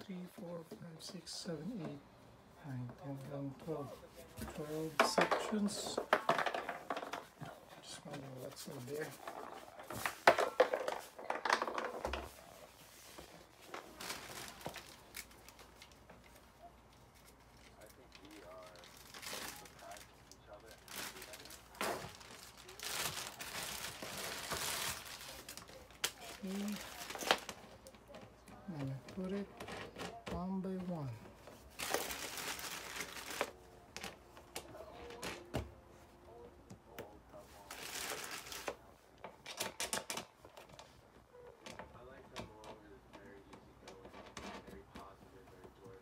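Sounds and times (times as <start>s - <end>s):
crinkling and rustling: 0.0s - 46.0s.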